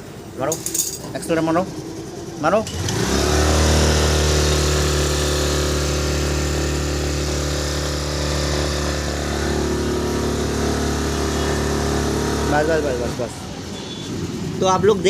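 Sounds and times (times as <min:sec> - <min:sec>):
scooter engine revving: 0:01.4 - 0:15.0.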